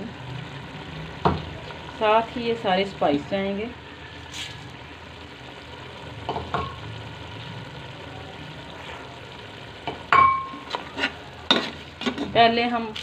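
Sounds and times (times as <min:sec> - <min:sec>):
paste sizzling in a pot: 0:00.0 - 0:13.0.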